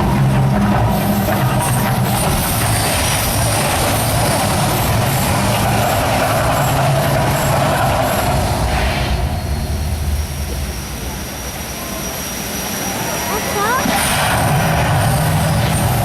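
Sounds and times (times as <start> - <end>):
rushing roar with low rumble: 0.0 - 16.0.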